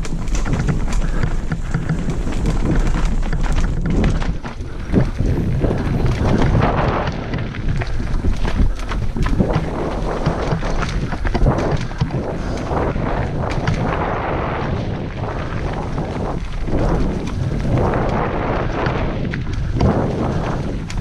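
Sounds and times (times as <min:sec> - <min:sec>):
bike knocks and rattles: 0:00.0 - 0:21.0
tyres rolling and skidding on dirt: 0:00.0 - 0:21.0
wind rumble on microphone: 0:00.0 - 0:21.0.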